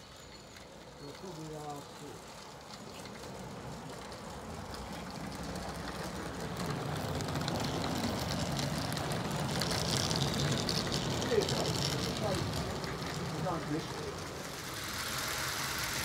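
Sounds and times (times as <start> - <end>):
model train wheels rattling on rails: 0.0 - 16.0.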